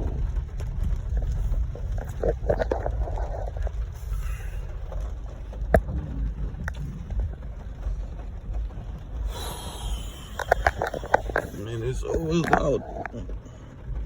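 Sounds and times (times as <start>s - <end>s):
car rumble: 0.0s - 14.0s.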